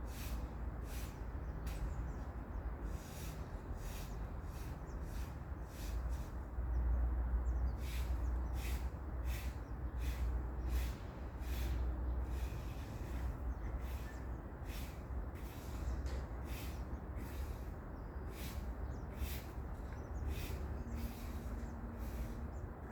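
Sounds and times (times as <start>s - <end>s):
small birds hissy calls: 0.1s - 6.9s, 7.5s - 22.7s.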